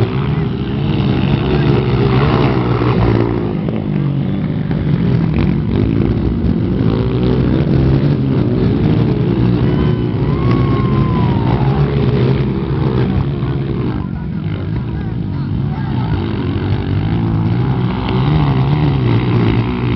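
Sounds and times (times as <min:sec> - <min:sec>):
dirt bike engines revving: 0:00.0 - 0:19.9.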